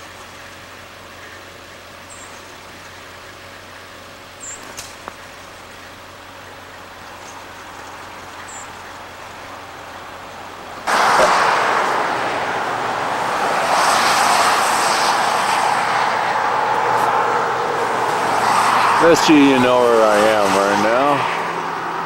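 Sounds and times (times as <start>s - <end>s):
road traffic rushing: 0.0s - 22.0s.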